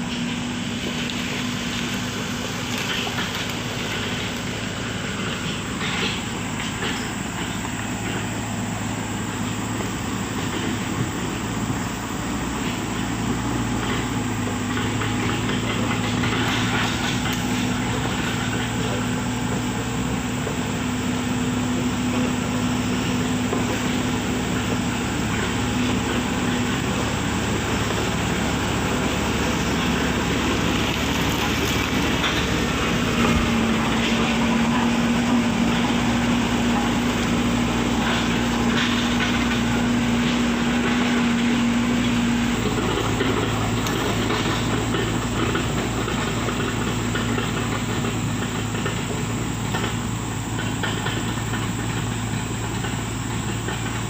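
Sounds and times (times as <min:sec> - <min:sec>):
heavy machinery engine running: 0:00.0 - 0:54.0.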